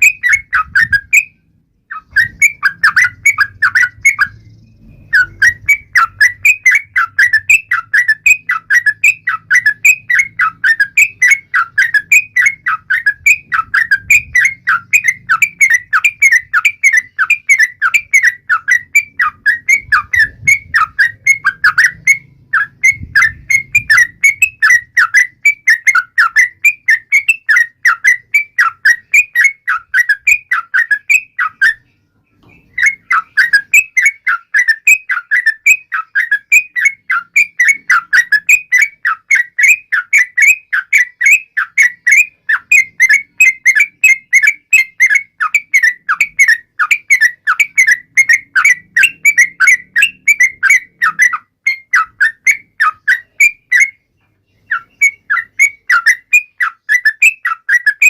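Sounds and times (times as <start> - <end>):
bird chattering whistled notes: 0.0 - 58.0.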